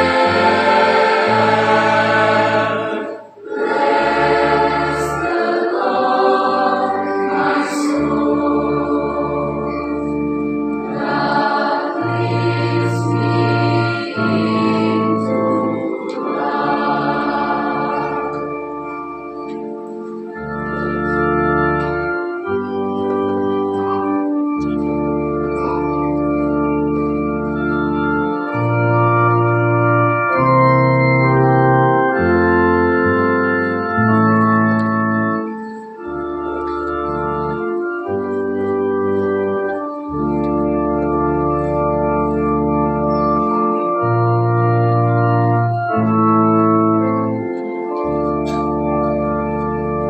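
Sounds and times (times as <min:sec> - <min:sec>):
organ playing sustained chords: 0:00.0 - 0:50.0.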